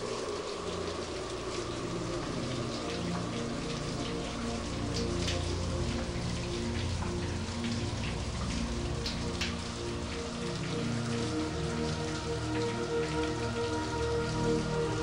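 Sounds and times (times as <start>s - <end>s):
rain falling: 0.0s - 15.0s
soft music of long held notes: 0.0s - 15.0s.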